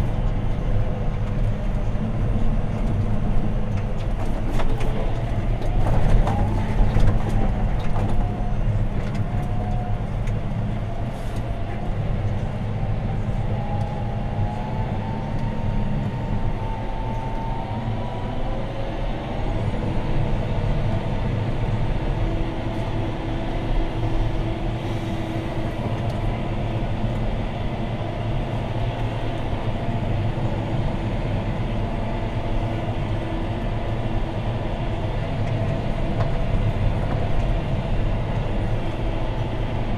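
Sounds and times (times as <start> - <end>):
engine whine: 0.0 - 39.9
tractor diesel engine running: 0.0 - 39.9.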